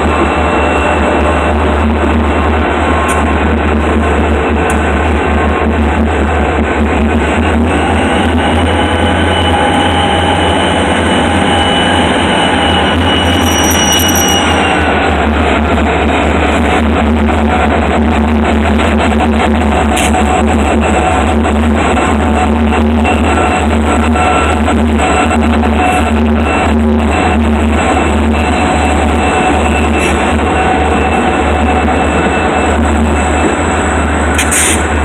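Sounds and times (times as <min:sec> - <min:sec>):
diesel locomotives passing: 0:00.0 - 0:35.0.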